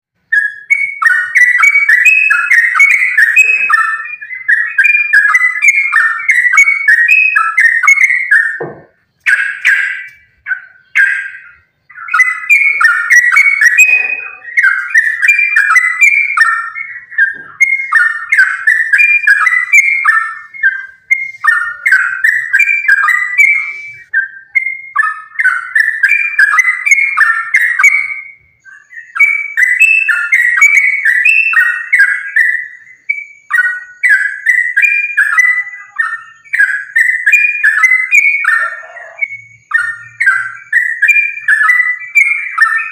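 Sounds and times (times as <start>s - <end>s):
bulbul singing chattering notes: 0.2s - 42.9s.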